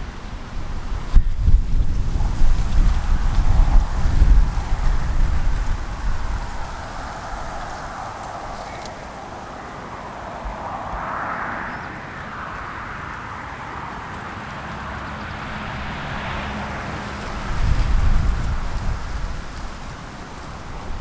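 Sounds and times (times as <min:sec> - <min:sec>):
steady outdoor hiss: 0:00.0 - 0:21.0
wind buffeting microphone: 0:00.0 - 0:21.0.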